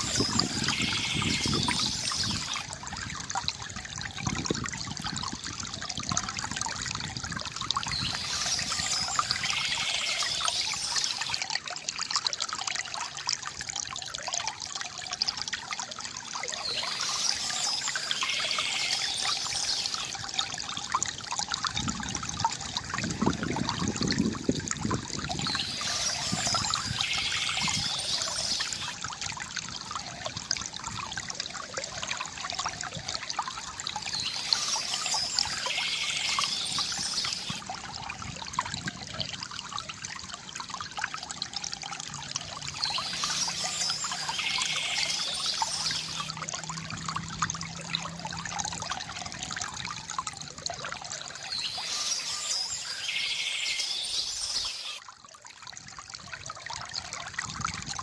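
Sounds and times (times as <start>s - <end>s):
water gurgling: 0.0s - 58.0s
water trickling from fountain: 0.0s - 58.0s.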